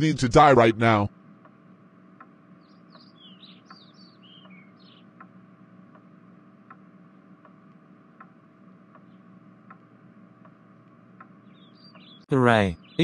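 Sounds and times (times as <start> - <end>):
birds chirping: 0.0 - 7.4, 8.8 - 13.0
faint steady tick: 1.1 - 12.0.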